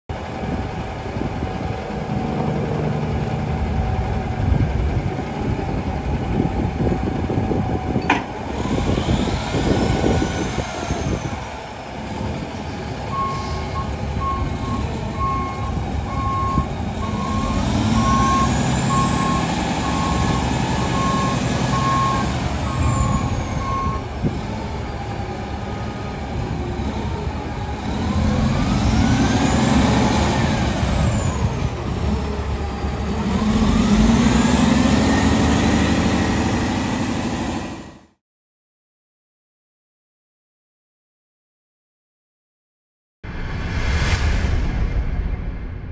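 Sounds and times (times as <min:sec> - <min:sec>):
diesel truck engine revving: 0:00.2 - 0:38.1.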